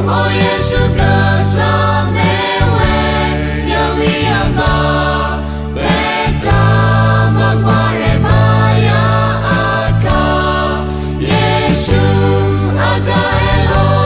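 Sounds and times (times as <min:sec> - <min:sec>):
bass line: 0:00.0 - 0:14.0
choir singing a hymn: 0:00.0 - 0:14.0.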